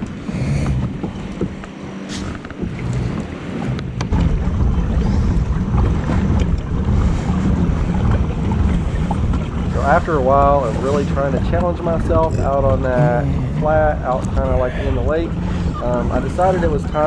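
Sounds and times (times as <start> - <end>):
low wavering drone: 0.0 - 17.0
water washing against hull: 0.0 - 17.0
wind buffeting microphone: 0.0 - 17.0.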